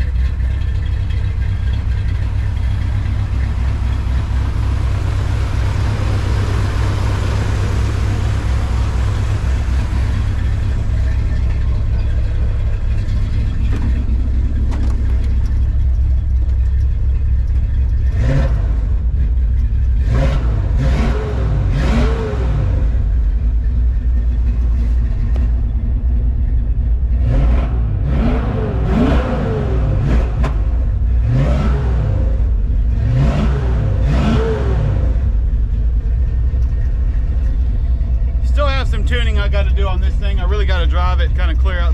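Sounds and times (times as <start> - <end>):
engine idling: 0.0 - 41.9
engine revving: 0.0 - 41.9.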